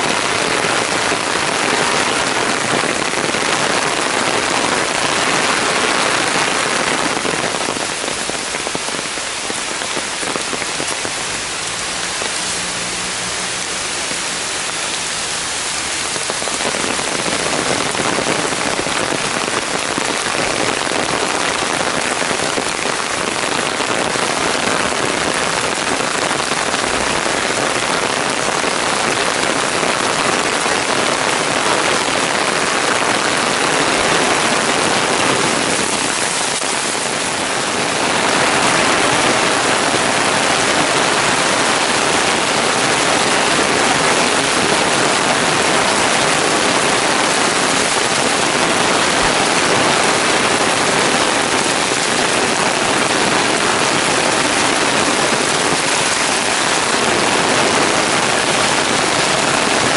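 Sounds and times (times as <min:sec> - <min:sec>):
heavy rain on stone and foliage: 0:00.0 - 0:59.9.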